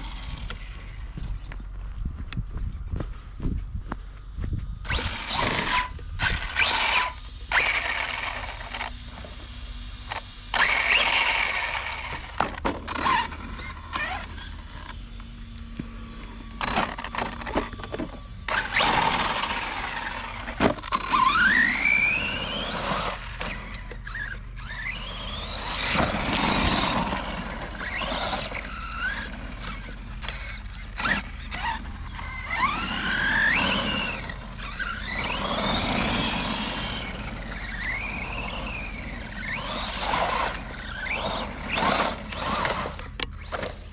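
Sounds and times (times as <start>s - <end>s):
electric toy truck motor whining: 0.0s - 1.0s, 4.8s - 43.9s.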